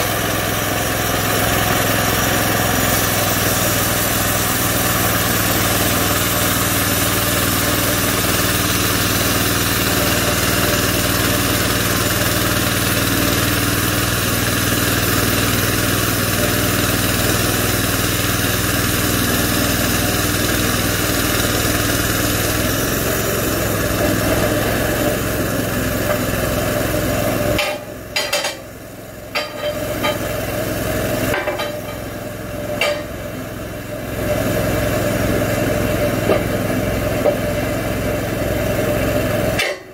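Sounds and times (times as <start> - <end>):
small engine running sawmill: 0.0 - 39.9.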